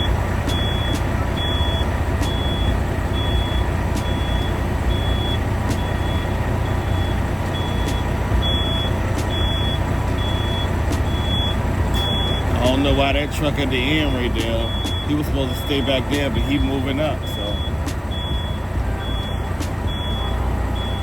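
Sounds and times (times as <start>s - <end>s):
diesel truck engine idling: 0.0s - 21.0s
truck reversing alarm beeping: 0.0s - 21.0s.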